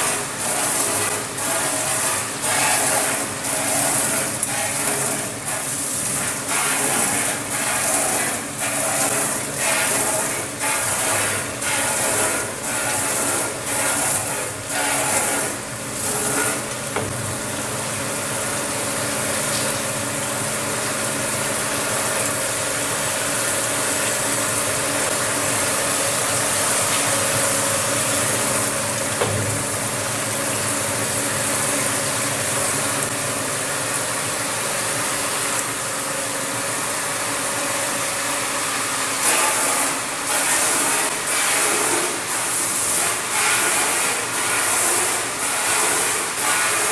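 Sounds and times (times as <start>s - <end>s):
machine mechanical hum: 0.0s - 46.9s.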